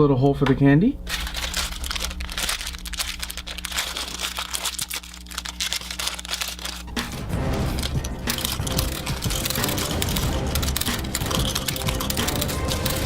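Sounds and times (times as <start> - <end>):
plastic wrapper crinkling: 1.0 - 13.0.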